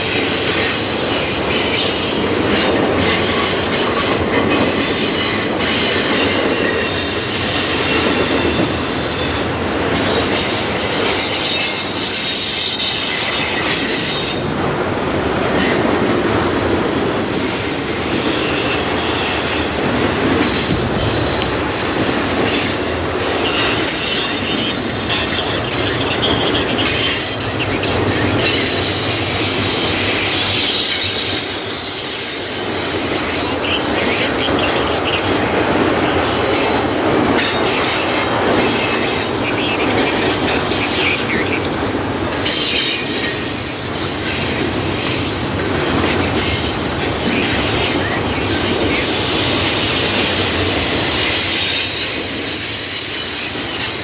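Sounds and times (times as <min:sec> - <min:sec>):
railroad cars rolling: 0:00.0 - 0:54.0
steel wheels squealing on rail: 0:00.0 - 0:54.0.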